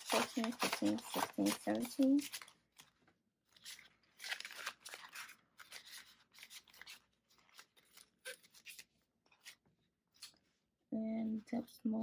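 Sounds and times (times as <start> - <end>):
plastic pouch crinkling: 0.0 - 10.3
paper banknotes rustling: 0.0 - 10.4.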